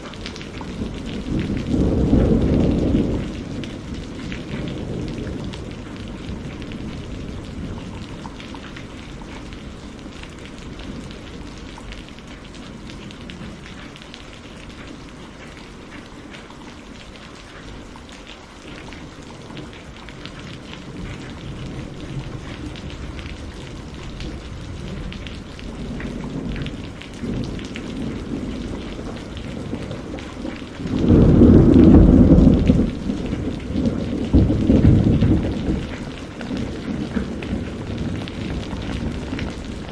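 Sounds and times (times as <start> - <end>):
thunder rumbling: 0.0 - 13.9, 18.9 - 39.9
steady rain pattering: 0.0 - 39.9.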